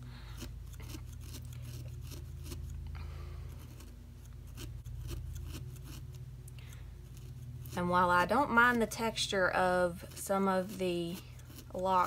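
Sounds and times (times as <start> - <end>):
felting needle poking wool: 0.2 - 12.0.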